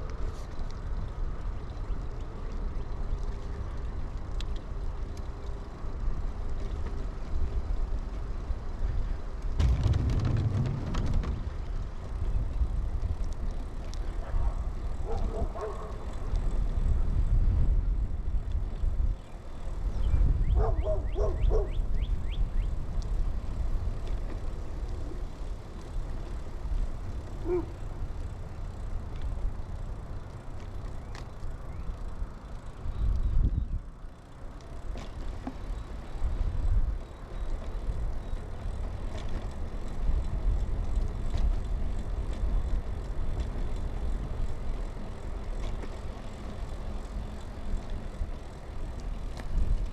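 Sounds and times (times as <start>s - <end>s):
bike tyre and road noise: 0.0s - 49.9s
low wind rumble: 0.0s - 49.9s.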